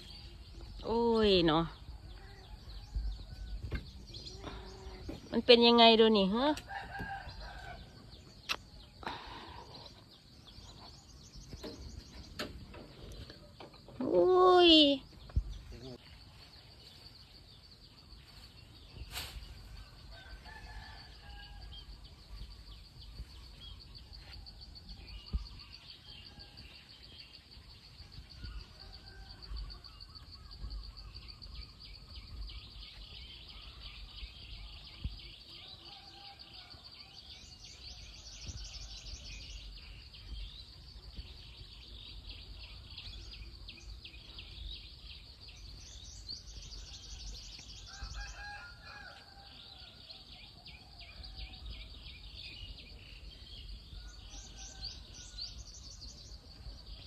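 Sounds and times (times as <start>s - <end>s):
birds chirping: 0.0s - 57.0s
high insect hum: 0.0s - 57.0s.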